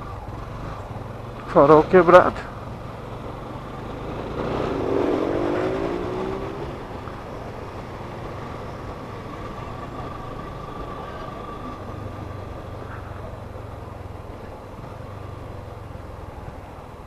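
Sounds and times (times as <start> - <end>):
vehicle passing close: 0.0 - 16.7
motorcycle engine and road rumble: 0.0 - 17.0.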